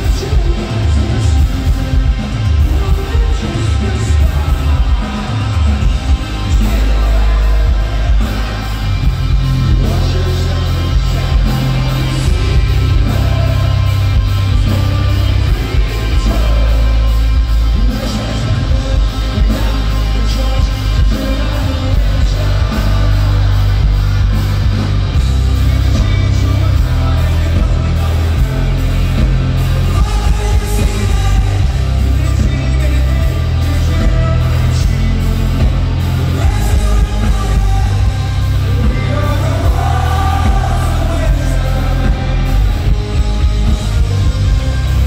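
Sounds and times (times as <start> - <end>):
man singing: 0.0 - 24.0, 25.4 - 45.0
bass guitar: 0.0 - 45.0
distorted electric guitar: 0.0 - 45.0
drums: 0.0 - 45.0.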